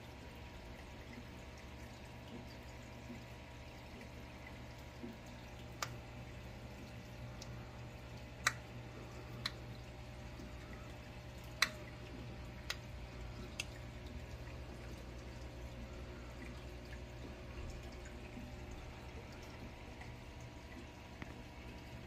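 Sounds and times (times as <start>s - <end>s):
aquarium equipment hum: 0.0s - 22.0s.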